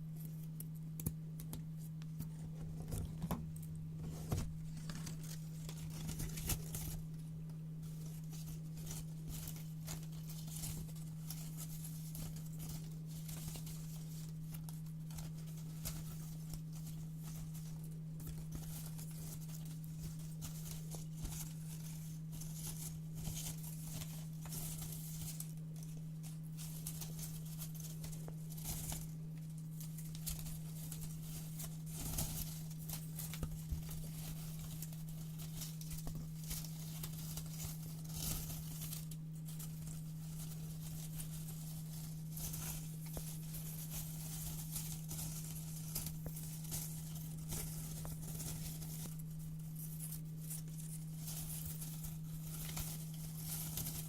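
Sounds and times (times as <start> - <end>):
steady low hum: 0.0 - 54.0
paper rustling: 2.2 - 7.2, 7.8 - 54.0.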